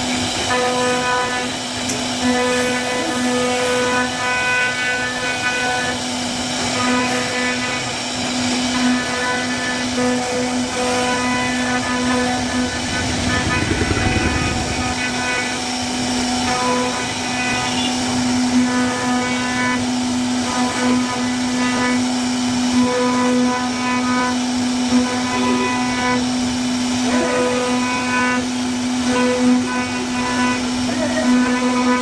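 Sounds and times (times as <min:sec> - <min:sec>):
cnc router spindle whining: 0:00.0 - 0:32.0
router bit cutting wood: 0:00.0 - 0:32.0.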